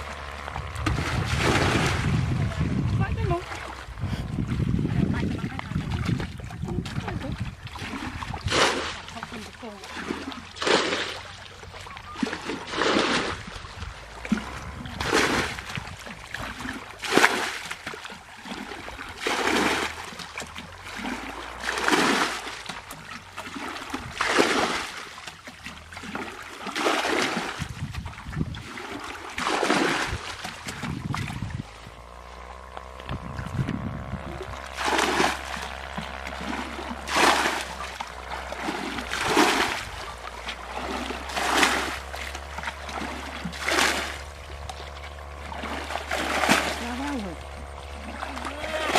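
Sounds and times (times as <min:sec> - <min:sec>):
low steady hum: 0:00.0 - 0:48.9
water splashing: 0:00.0 - 0:48.9.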